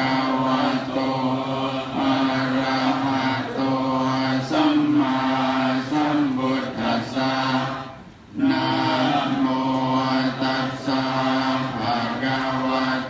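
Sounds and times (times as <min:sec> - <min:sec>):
group chanting in unison: 0:00.0 - 0:13.0.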